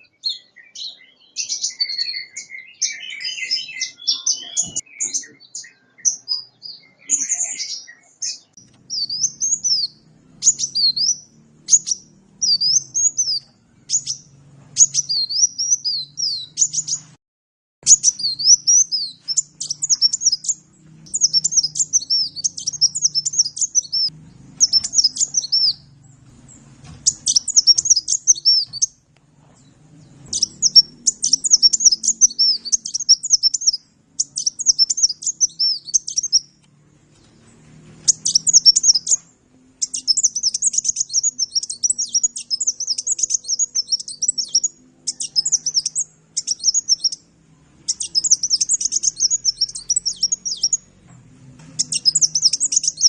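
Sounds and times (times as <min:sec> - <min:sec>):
sunbird twittering song: 0:00.0 - 0:17.2, 0:17.8 - 0:51.1, 0:51.7 - 0:53.0.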